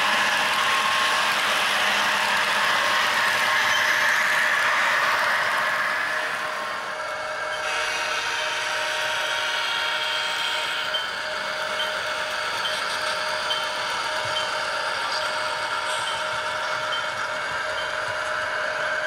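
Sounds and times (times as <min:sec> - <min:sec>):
model train humming: 0:00.0 - 0:19.0.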